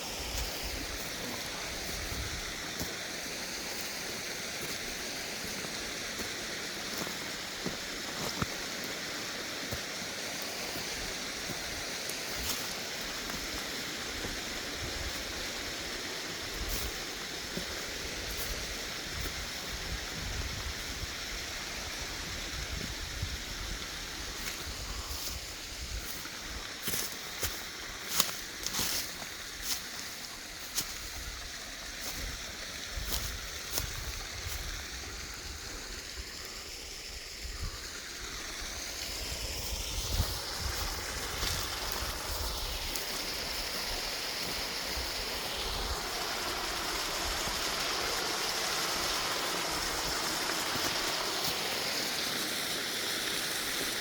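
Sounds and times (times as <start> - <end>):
small waterfall splashing: 0.0 - 54.0
water pouring from pipe: 0.0 - 54.0.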